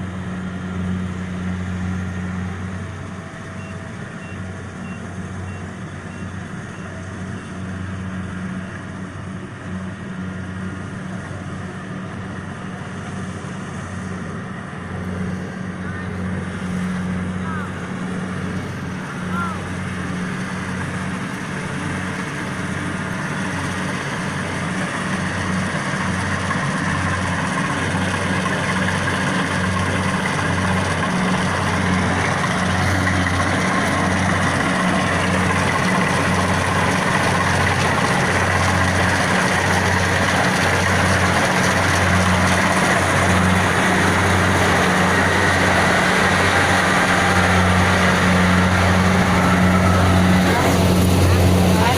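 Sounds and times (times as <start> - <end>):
diesel engine humming: 0.0 - 51.9.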